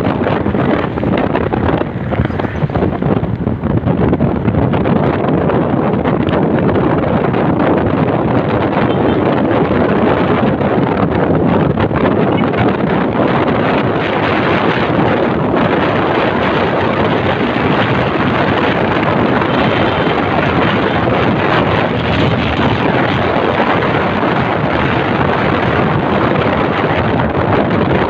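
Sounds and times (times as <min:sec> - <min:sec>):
motorcycle running: 0:00.0 - 0:28.0
road noise: 0:00.0 - 0:28.0
wind buffeting microphone: 0:00.0 - 0:28.0.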